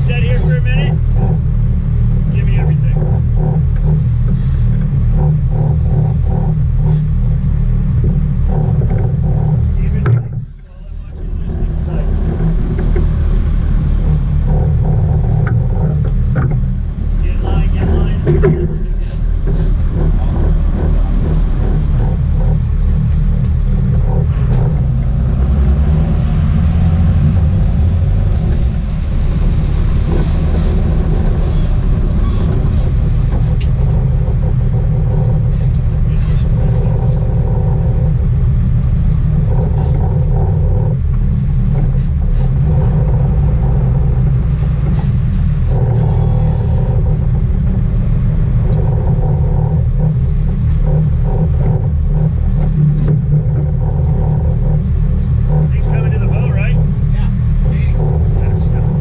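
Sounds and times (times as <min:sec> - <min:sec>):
boat engines rumbling: 0:00.0 - 0:59.0
water noise: 0:00.0 - 0:59.0
wind: 0:00.0 - 0:59.0.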